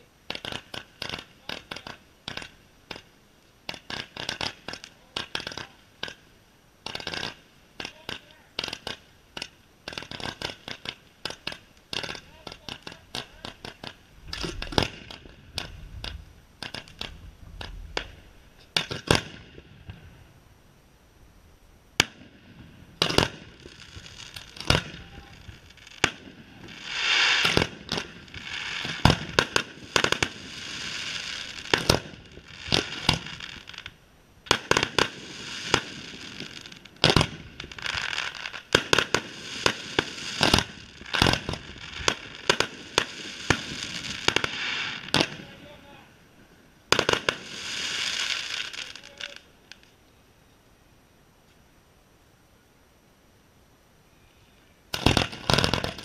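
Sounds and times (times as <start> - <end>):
fireworks bangs: 0.0 - 20.4, 22.0 - 46.2, 46.9 - 49.8, 54.9 - 56.0
fireworks crackle and hiss: 0.0 - 50.1, 54.3 - 56.0.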